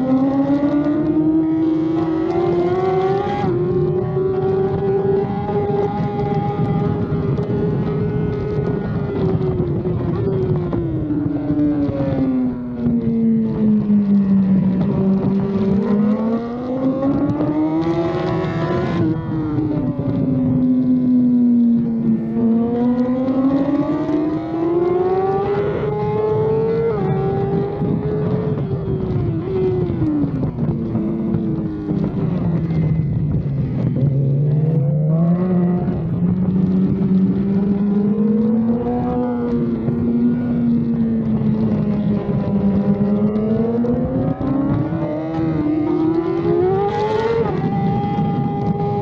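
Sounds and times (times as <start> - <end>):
motorcycle engine running hard: 0.0 - 49.0.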